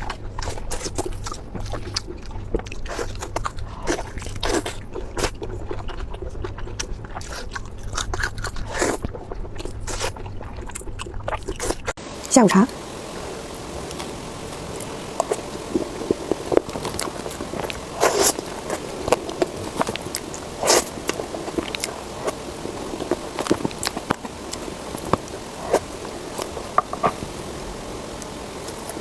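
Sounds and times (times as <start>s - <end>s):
mouth chewing and biting: 0.0s - 12.0s, 13.7s - 27.3s.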